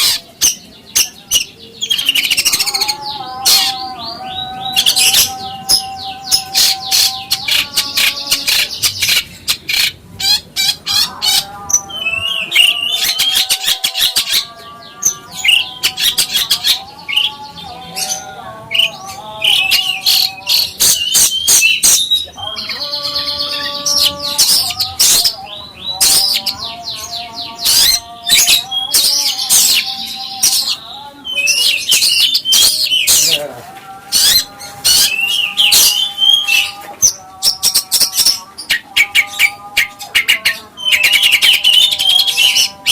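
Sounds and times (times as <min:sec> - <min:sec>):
songbird chirps and trills: 0:00.0 - 0:42.9.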